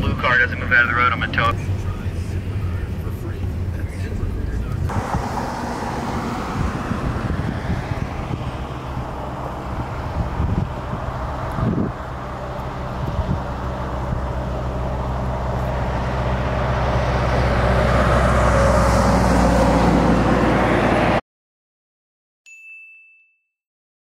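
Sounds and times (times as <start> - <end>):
vehicle engine humming: 0.0 - 21.2.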